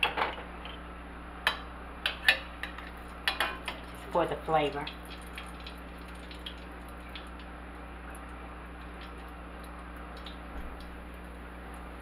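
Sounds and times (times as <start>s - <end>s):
low electrical hum: 0.0s - 12.0s
cooking oil popping: 1.4s - 12.0s.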